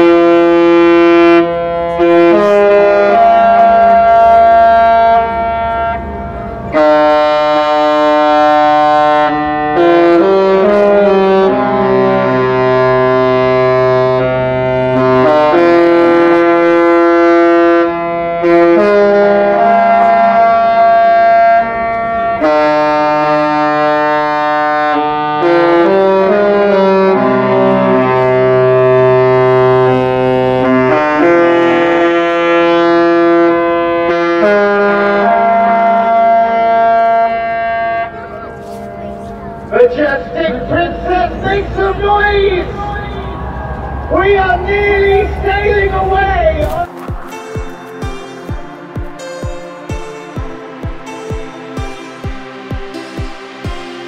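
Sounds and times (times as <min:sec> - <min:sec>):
slow sustained brass chords: 0:00.0 - 0:54.0.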